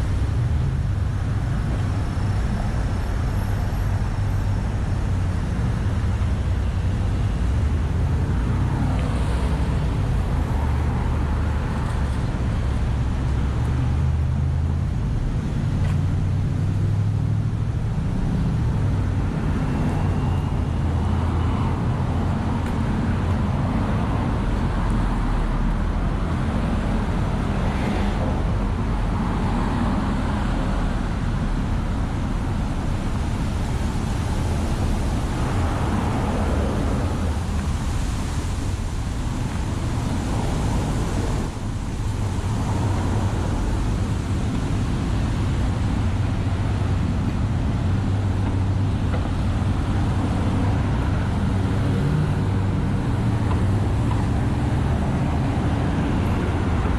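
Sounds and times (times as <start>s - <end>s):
cars passing: 0.0s - 56.9s.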